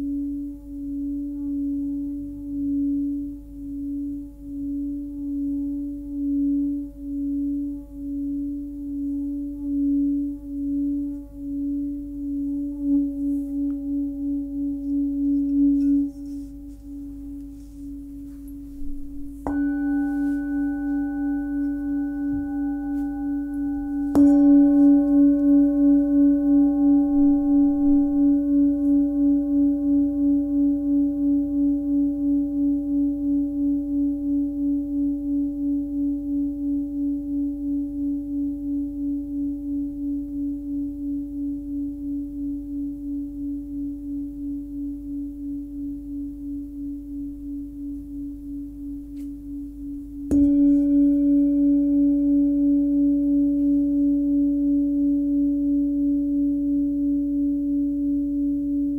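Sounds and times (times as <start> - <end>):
singing bowl ringing: 0.0 - 58.9
singing bowl strikes: 4.7 - 58.9.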